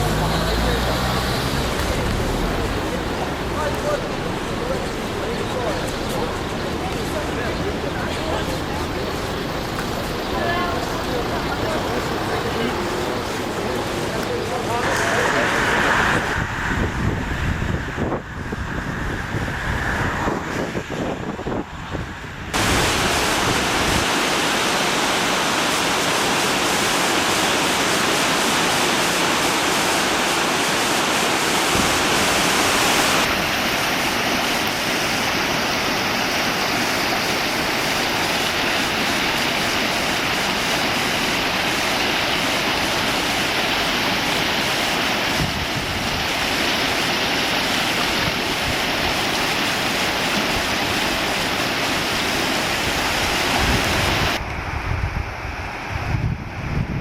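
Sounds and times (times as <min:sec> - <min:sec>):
river water rushing: 0:00.0 - 0:17.7, 0:22.6 - 0:54.5.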